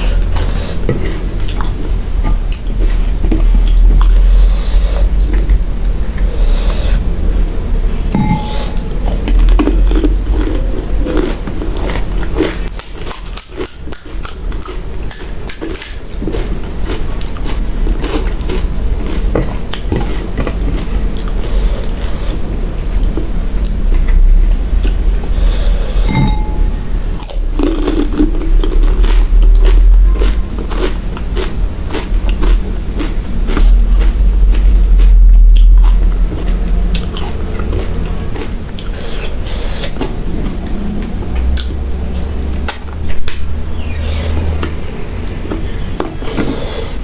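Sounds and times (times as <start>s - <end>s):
chewing: 0.0s - 47.0s
low steady hum: 0.0s - 47.0s.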